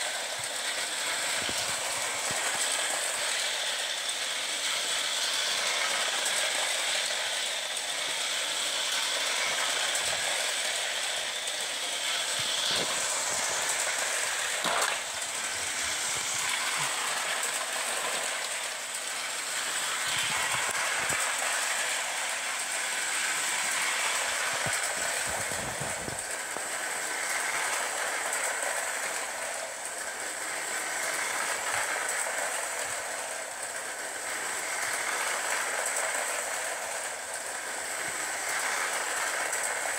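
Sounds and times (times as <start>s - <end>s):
model train whirring on rails: 0.0s - 39.9s.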